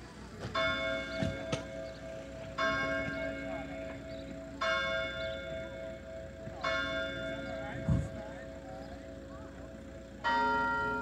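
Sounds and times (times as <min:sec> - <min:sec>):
church clock bell striking: 0:00.0 - 0:11.0.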